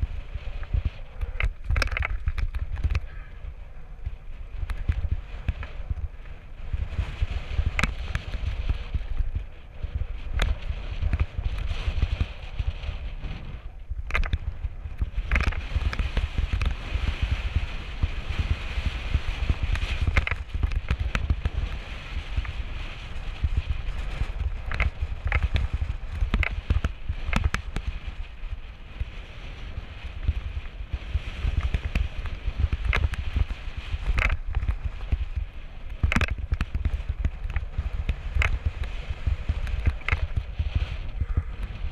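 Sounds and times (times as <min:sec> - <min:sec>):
bike clicks and rattles: 0:00.0 - 0:41.9
wind rumbling on microphone: 0:00.0 - 0:41.9.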